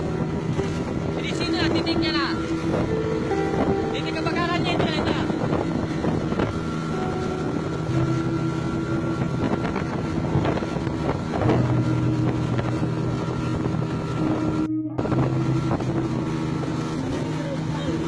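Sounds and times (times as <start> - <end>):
boat engine running: 0.0 - 18.0
wind buffeting microphone: 0.0 - 18.0.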